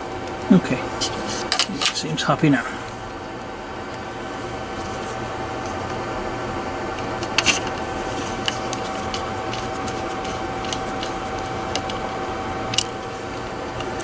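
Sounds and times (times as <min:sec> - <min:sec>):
faint whine: 0:00.0 - 0:14.0
mechanical hum: 0:00.0 - 0:14.0.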